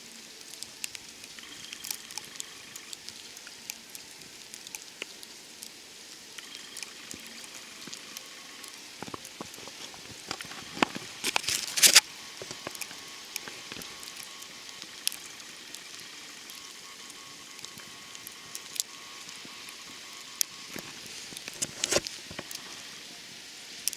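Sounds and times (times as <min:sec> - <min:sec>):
meltwater drips pattering: 0:00.0 - 0:23.0
steady hiss: 0:00.0 - 0:23.9.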